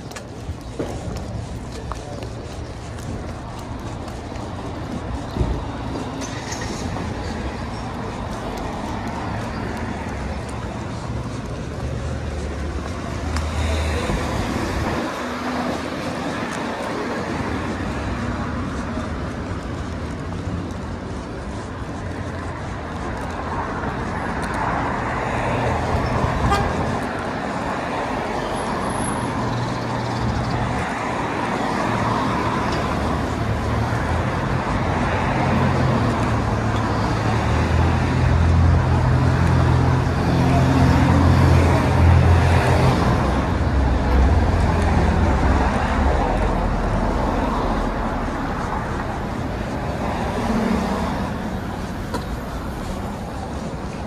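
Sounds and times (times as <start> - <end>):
traffic driving past: 0.0 - 54.0.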